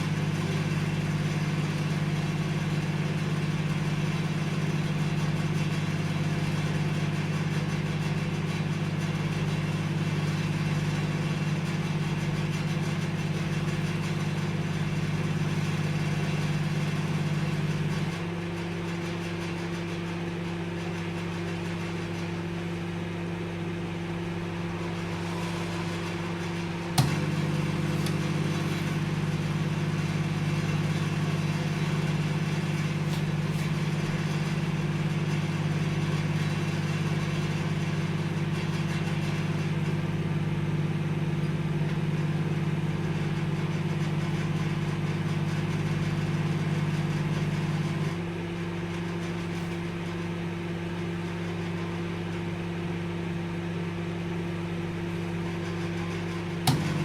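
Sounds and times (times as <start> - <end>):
microwave oven humming: 0.0 - 57.0.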